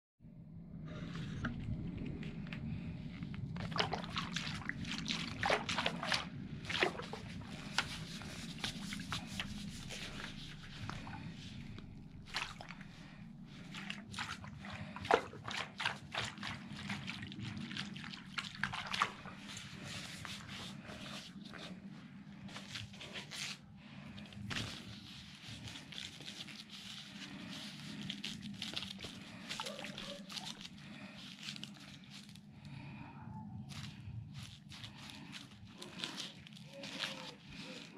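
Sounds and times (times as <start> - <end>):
steady low hum: 0.2 - 37.9.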